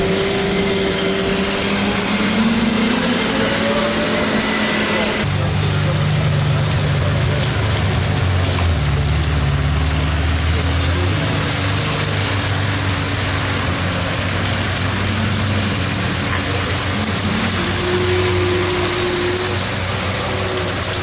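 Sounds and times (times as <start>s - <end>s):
car engines running at low revs: 0.0s - 21.0s
heavy rain on tarmac: 0.0s - 21.0s.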